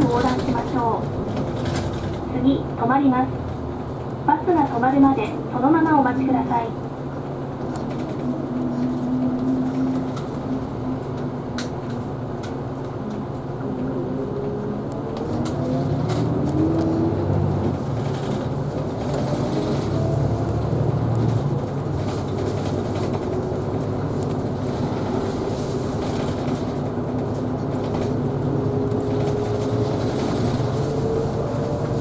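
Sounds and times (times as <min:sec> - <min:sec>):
bus engine drone: 0:00.0 - 0:32.0.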